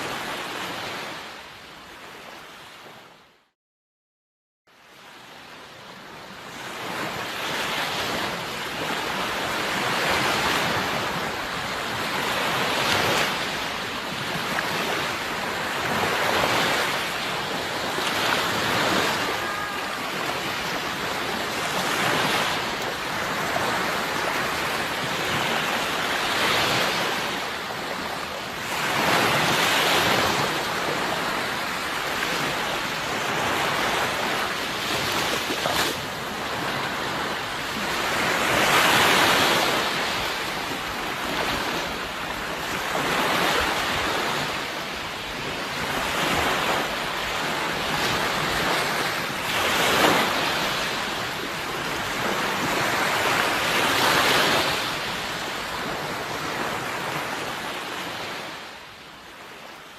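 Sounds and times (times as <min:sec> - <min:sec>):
sea waves breaking on shore: 0:00.0 - 0:03.3, 0:04.7 - 0:59.9.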